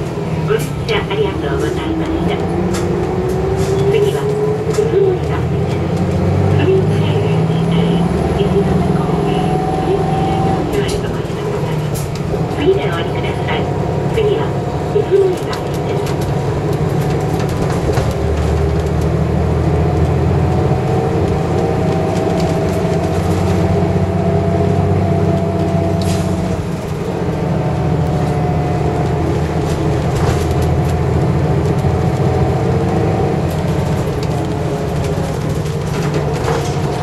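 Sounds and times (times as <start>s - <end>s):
bus engine under load: 0.0s - 37.0s.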